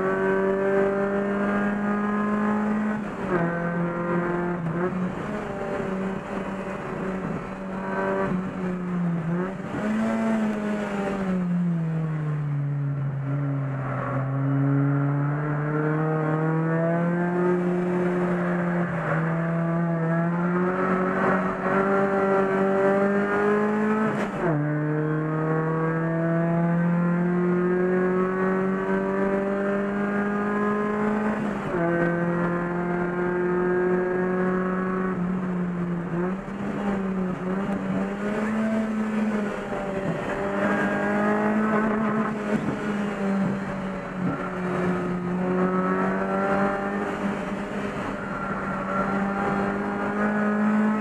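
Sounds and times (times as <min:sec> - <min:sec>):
race car engine at full throttle: 0:00.0 - 0:51.0.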